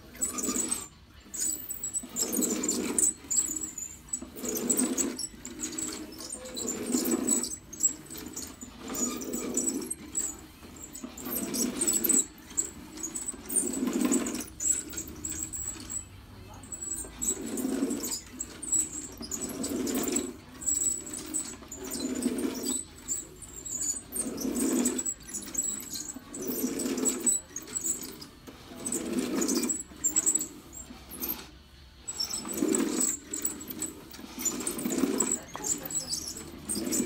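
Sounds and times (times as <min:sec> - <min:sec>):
carpet sweeper brush whirring: 0:00.0 - 0:37.0.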